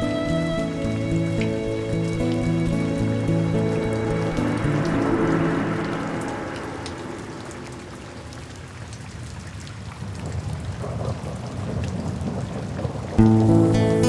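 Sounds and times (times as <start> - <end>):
rain falling: 0.0 - 14.0
thunder rumbling: 0.7 - 13.6.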